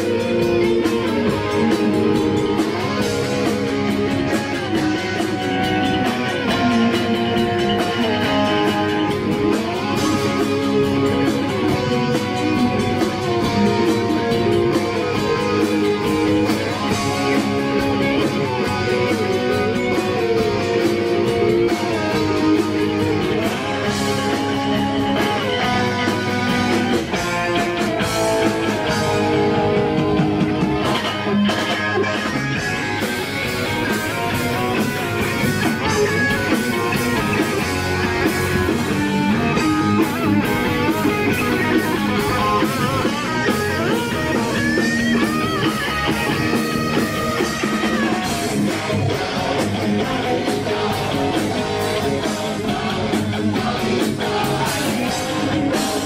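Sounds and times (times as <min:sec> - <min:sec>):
electric guitar: 0:00.0 - 0:56.0
rock band playing live: 0:00.0 - 0:56.0.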